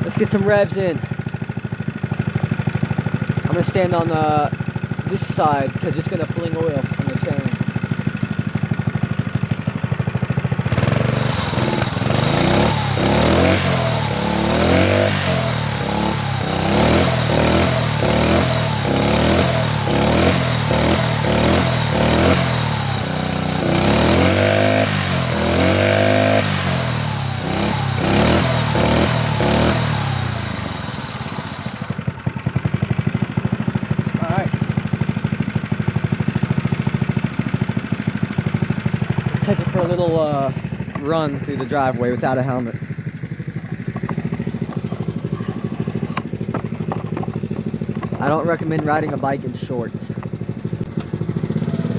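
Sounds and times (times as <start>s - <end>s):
small engine revving: 0.0s - 51.9s.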